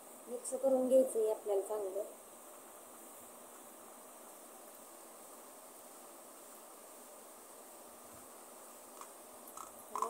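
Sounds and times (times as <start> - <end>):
faint room tone hiss: 0.0 - 10.0.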